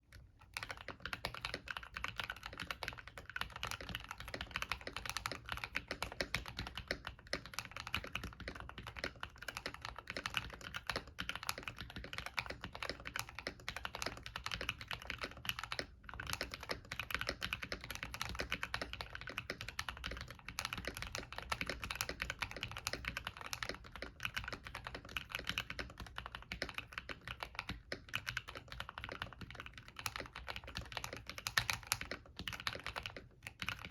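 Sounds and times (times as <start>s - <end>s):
mechanical keyboard typing: 0.1s - 33.9s.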